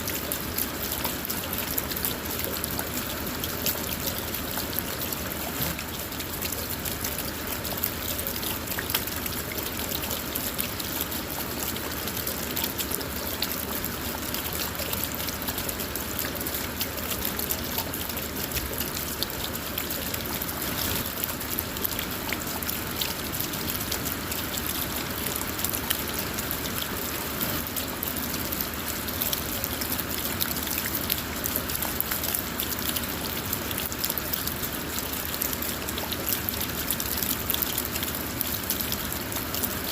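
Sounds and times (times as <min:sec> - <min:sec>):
rain falling on a car: 0:00.0 - 0:39.9
running water: 0:00.0 - 0:39.9.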